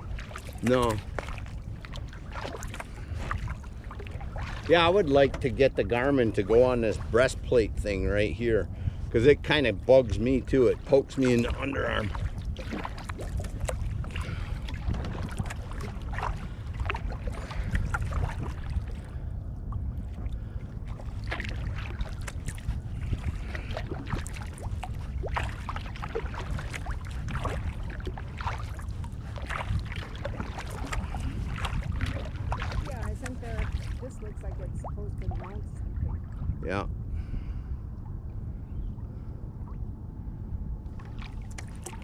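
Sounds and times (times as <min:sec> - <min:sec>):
water splashing around kayak: 0:00.0 - 0:39.9, 0:40.8 - 0:42.0
steady low rumble: 0:00.0 - 0:42.0.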